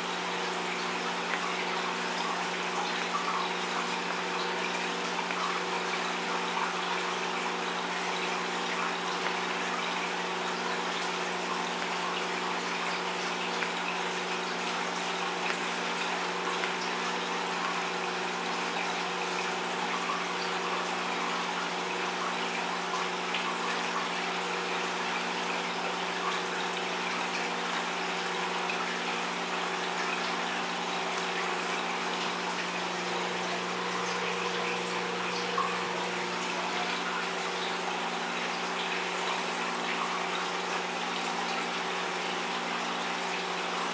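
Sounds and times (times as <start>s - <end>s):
low electrical hum: 0.0s - 43.9s
water rushing and splashing: 0.0s - 43.9s.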